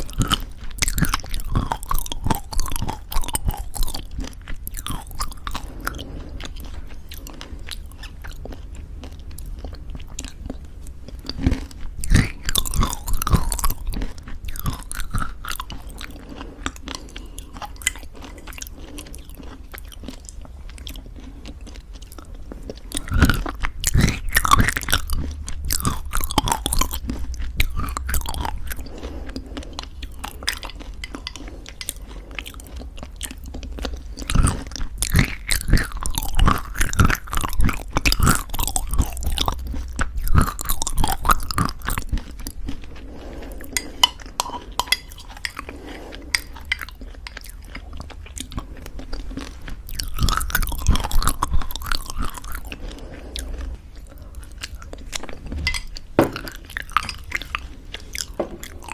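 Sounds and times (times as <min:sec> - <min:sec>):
chewing crunchy granola: 0:00.0 - 0:58.9.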